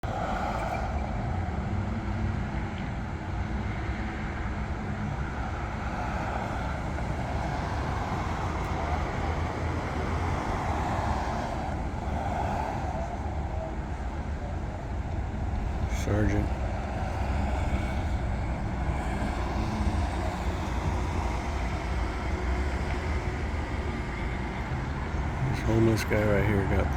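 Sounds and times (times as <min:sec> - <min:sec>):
road traffic rumble: 0:00.0 - 0:26.9.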